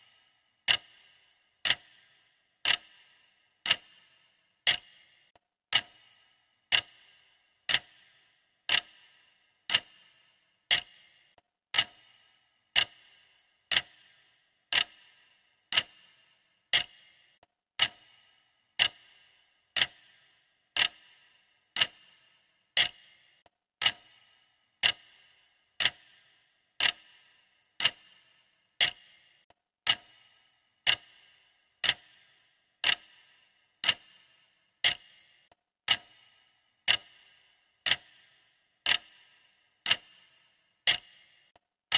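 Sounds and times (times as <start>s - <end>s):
clock ticking: 0.0s - 41.6s.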